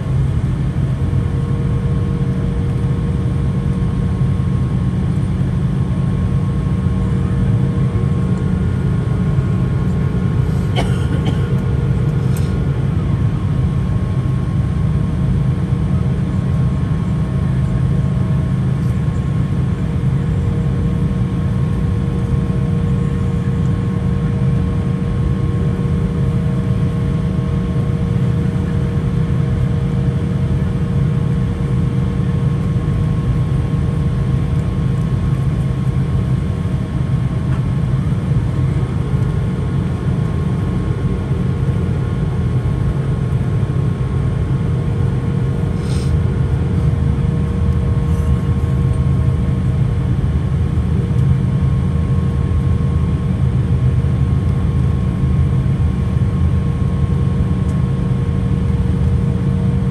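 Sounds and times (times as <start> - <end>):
aircraft cabin low rumble: 0.0 - 59.9.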